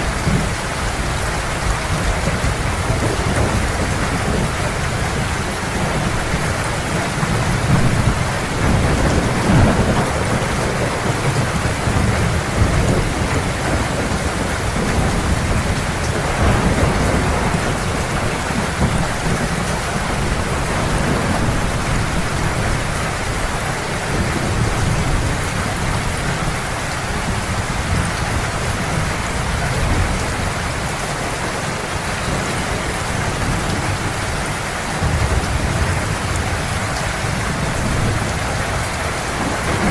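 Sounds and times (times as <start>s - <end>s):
heavy rain falling: 0.0s - 39.9s
low rolling thunder: 0.0s - 39.9s.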